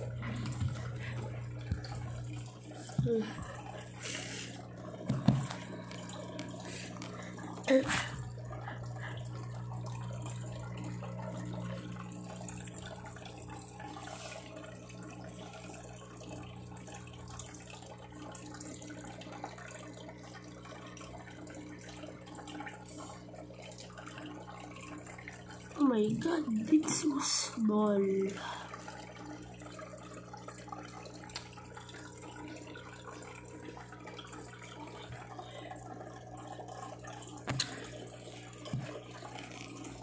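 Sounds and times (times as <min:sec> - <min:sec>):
aquarium filter humming: 0:00.0 - 0:40.0
water trickling and dripping: 0:00.0 - 0:40.0.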